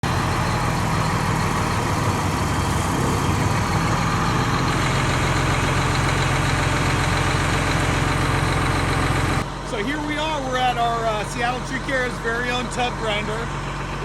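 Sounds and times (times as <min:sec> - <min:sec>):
large diesel engine running: 0:00.0 - 0:14.0.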